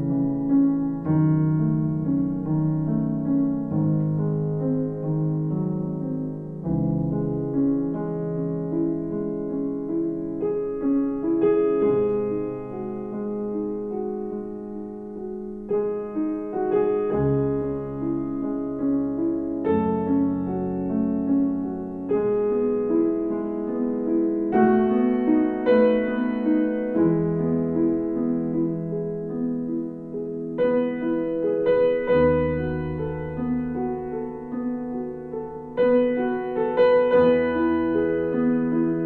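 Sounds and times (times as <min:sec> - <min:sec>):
slow gentle piano music: 0:00.0 - 0:39.0.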